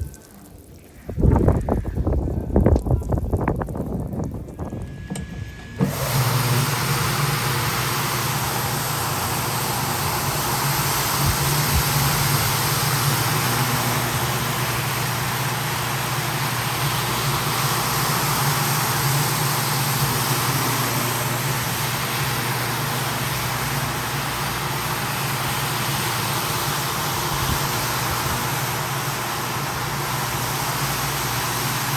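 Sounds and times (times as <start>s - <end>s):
floor machine motor hum: 0.0s - 31.9s
brush hissing on wet rug: 5.8s - 31.9s.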